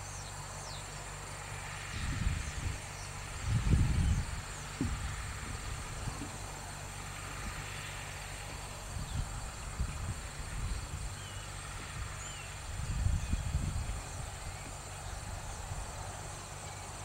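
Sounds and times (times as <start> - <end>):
crickets and insects trilling: 0.0 - 17.0
distant tractor hum: 0.0 - 17.0
wind rumble on microphone: 1.5 - 17.0.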